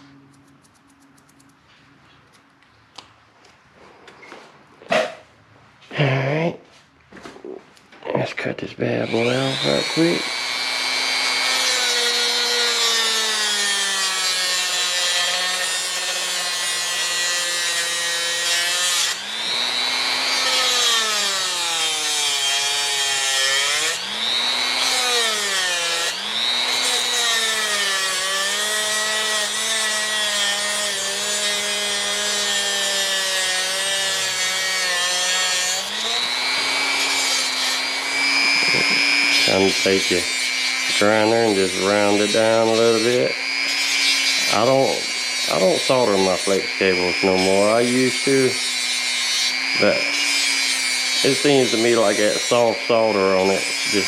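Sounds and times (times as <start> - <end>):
power cutting tool whining: 8.9 - 54.0.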